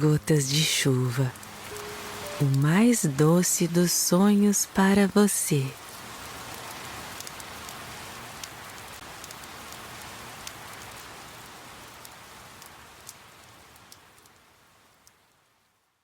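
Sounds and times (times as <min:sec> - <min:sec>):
gentle rain patter: 0:00.0 - 0:16.0.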